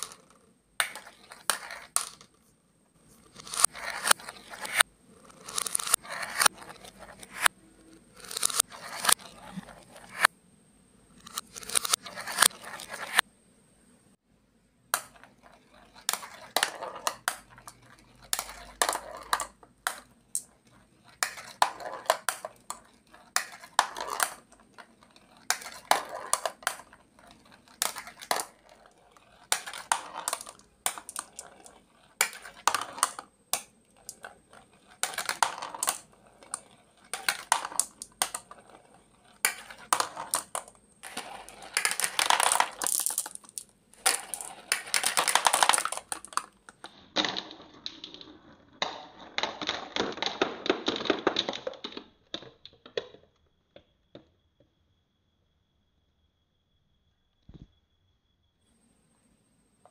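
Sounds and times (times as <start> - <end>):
marbles clattering on plastic: 0.0 - 2.4, 3.2 - 10.3, 11.2 - 13.2, 14.9 - 54.3.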